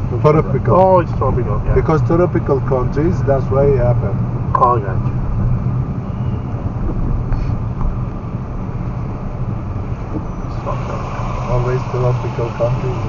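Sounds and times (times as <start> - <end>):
car cabin drone: 0.0 - 13.0.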